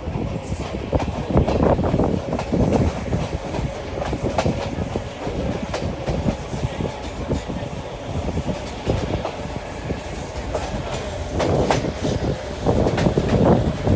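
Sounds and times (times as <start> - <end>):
train rumble: 0.0 - 13.9
train wheels clattering: 0.0 - 13.9.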